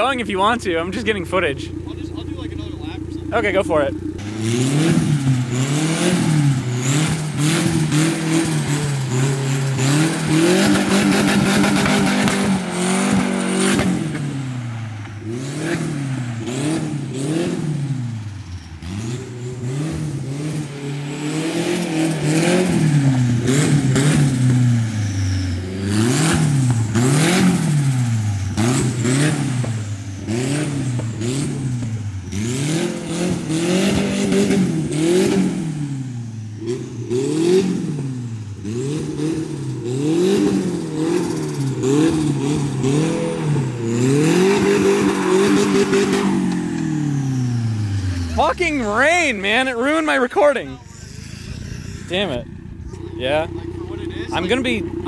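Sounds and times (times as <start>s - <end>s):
exhaust pops crackling: 0.0s - 17.2s, 18.2s - 25.0s, 26.0s - 35.6s, 39.6s - 50.7s
car engine revving: 0.0s - 55.0s.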